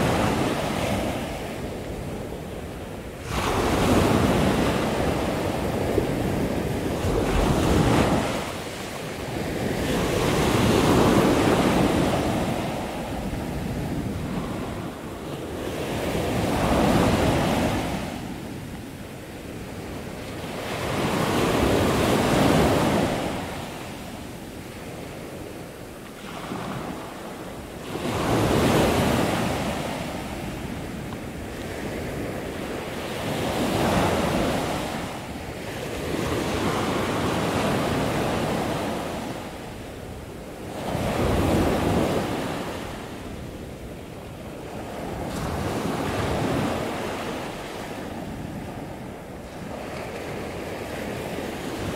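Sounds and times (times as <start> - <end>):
wind on microphone: 0.0 - 51.9.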